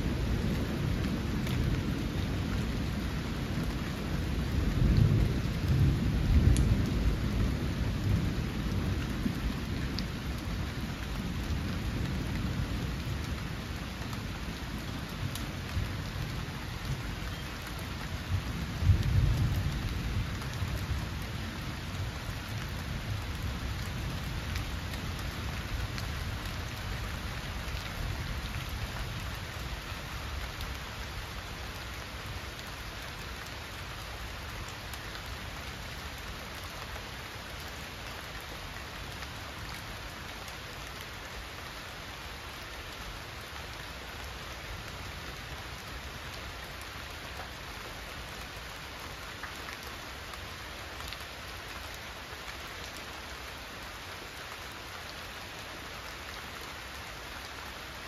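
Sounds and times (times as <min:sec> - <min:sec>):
rain on foliage and stone: 0:00.0 - 0:58.0.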